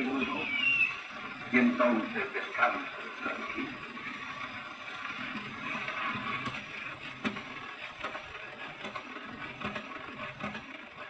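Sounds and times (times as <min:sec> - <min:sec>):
record surface hiss: 0:00.0 - 0:10.6.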